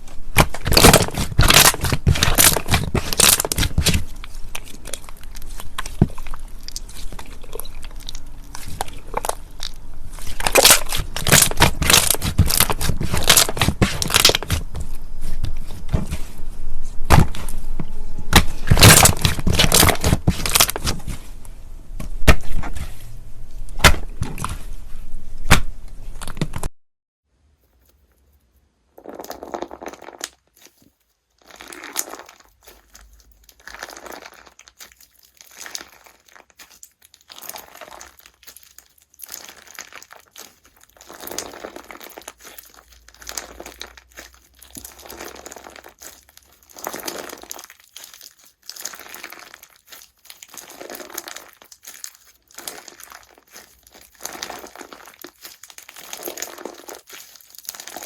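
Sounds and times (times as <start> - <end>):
slime crackling and popping: 0.0 - 23.0, 23.6 - 24.7, 28.9 - 58.0
soft slime squishes: 0.0 - 25.0, 27.5 - 58.0.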